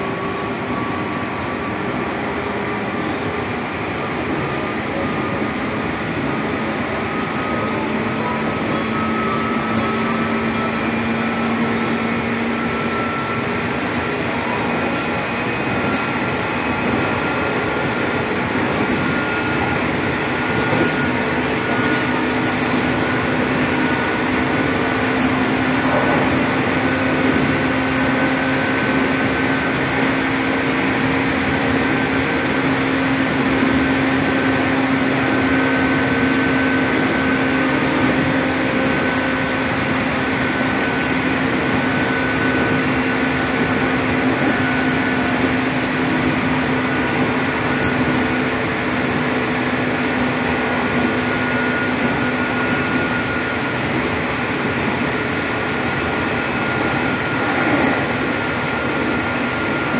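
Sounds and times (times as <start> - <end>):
train traction motors whining: 0.0 - 59.9
wheels rumbling on rails: 0.0 - 59.9.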